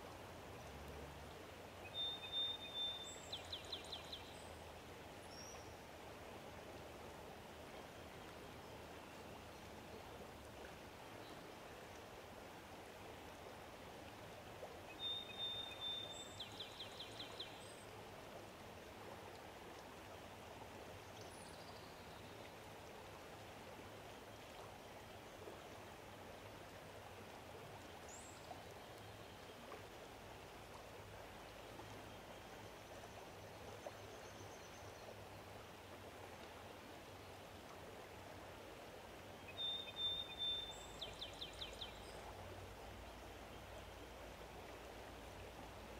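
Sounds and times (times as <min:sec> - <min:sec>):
flowing water: 0:00.0 - 0:45.9.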